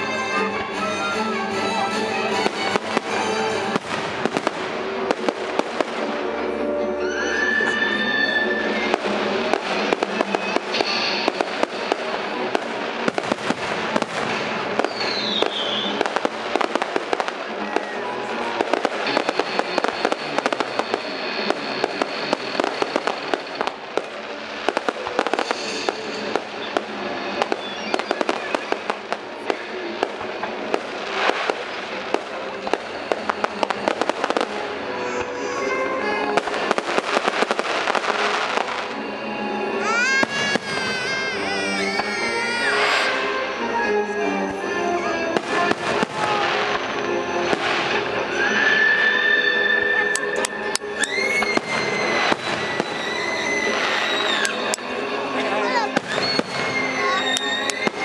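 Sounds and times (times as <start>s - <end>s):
fireworks bangs and crackling: 0.0s - 58.0s
show music: 0.0s - 58.0s.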